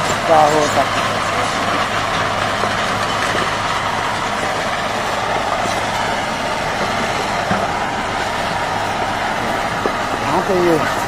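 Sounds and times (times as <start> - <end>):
vehicle engine running steadily: 0.0 - 11.0.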